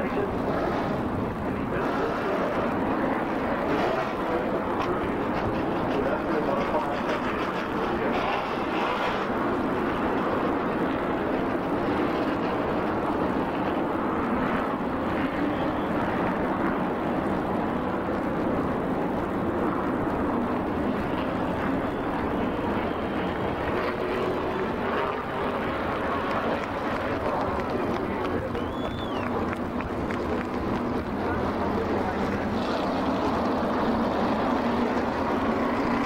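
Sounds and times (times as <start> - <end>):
race car engines running: 0.0 - 36.0.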